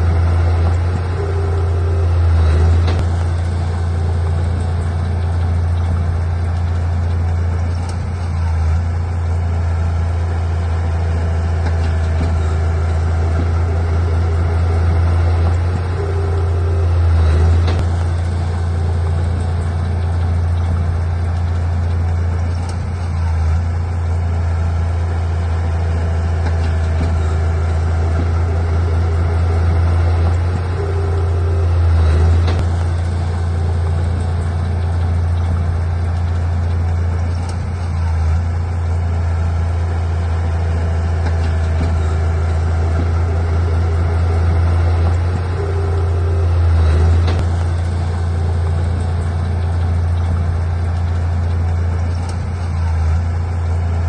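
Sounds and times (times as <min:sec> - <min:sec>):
heavy diesel engine humming: 0:00.0 - 0:54.0.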